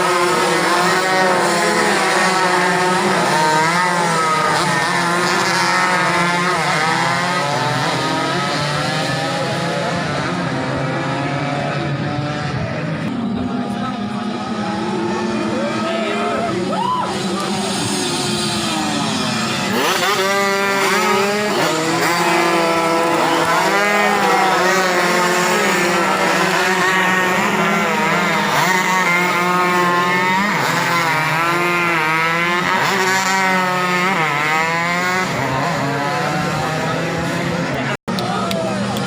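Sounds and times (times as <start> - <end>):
racing motorcycles revving: 0.0 - 39.0.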